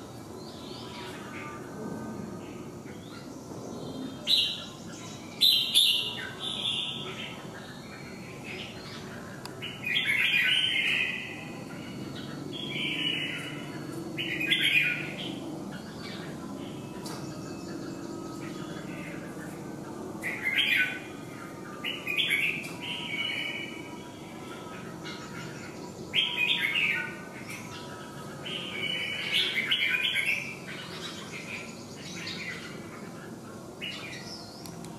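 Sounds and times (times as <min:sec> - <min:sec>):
bird singing warbled phrases: 0:02.8 - 0:34.9.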